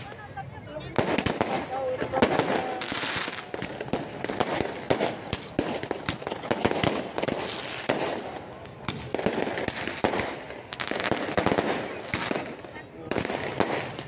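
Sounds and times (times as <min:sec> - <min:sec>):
fireworks and firecrackers banging: 0:00.0 - 0:14.0.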